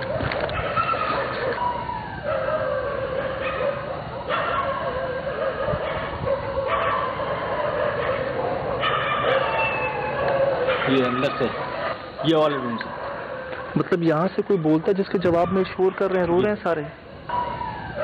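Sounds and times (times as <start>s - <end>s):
dogs howling and whining: 0.0s - 18.0s.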